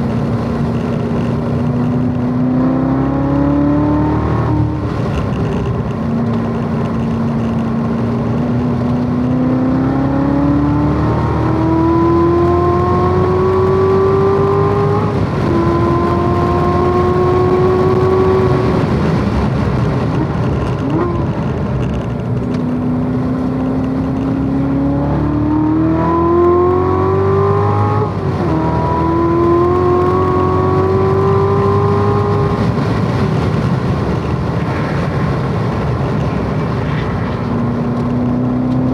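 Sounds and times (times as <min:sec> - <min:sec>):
car engine at full throttle: 0:00.0 - 0:38.9.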